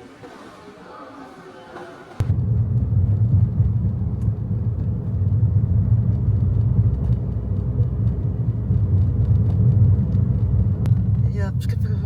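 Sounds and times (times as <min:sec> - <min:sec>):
car road and engine noise: 0:02.0 - 0:12.0.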